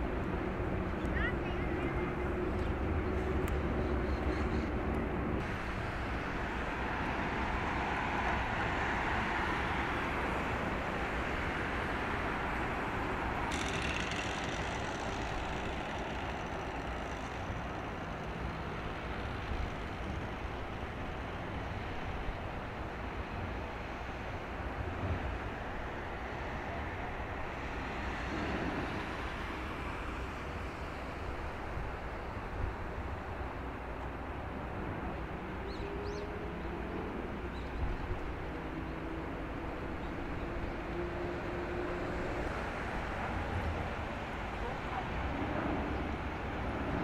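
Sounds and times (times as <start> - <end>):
vehicle rumble and hiss: 0.0 - 47.0.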